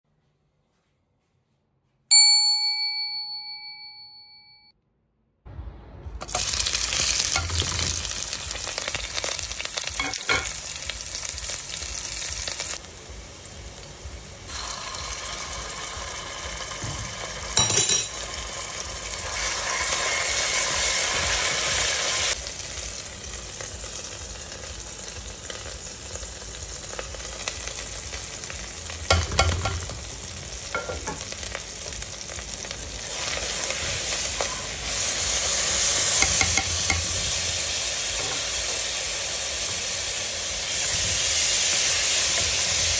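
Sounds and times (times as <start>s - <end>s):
onions sizzling in hot oil: 6.2s - 42.9s.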